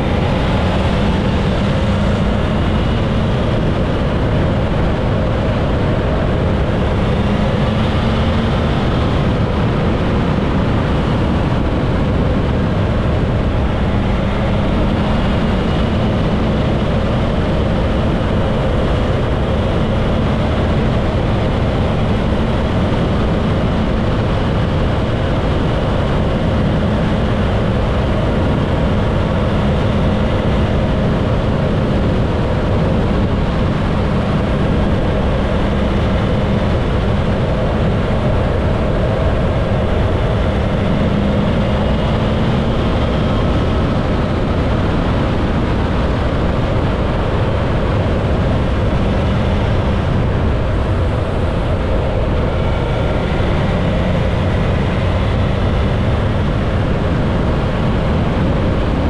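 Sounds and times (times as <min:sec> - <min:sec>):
motorcycle engine cruising: 0:00.0 - 0:59.0
wind rush over microphone: 0:00.0 - 0:59.0.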